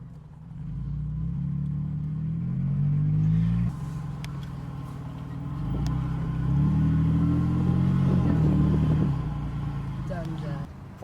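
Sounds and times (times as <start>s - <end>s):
car engine accelerating: 0.0s - 10.7s.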